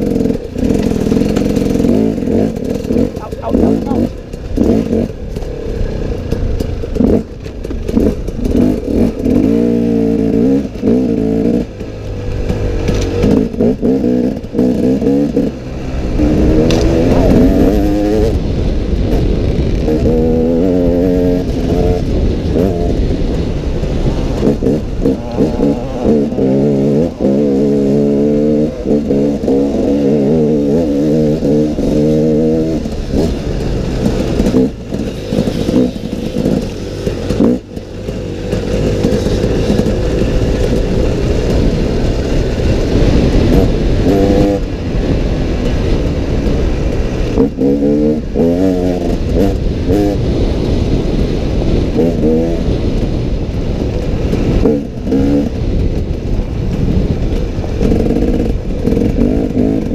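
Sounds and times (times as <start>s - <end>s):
two-stroke motorcycle engine revving: 0.0s - 59.9s
wind rumble on microphone: 0.0s - 59.9s.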